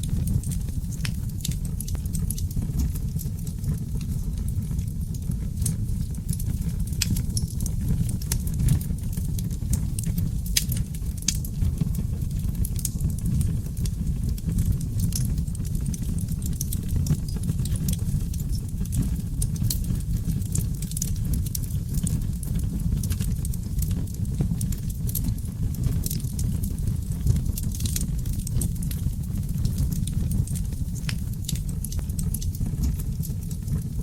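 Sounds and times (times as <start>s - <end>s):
fire low rumble: 0.0s - 34.0s
wood fire crackling and popping: 0.0s - 34.0s.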